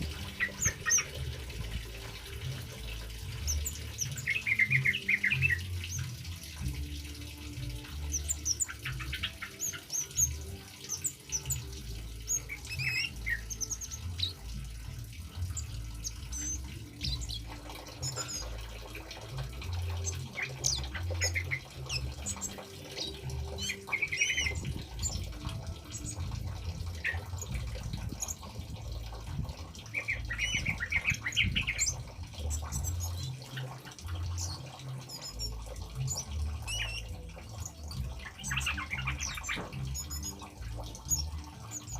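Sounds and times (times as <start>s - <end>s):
birds chirping and warbling: 0.0s - 41.9s
trickling water: 0.0s - 41.9s.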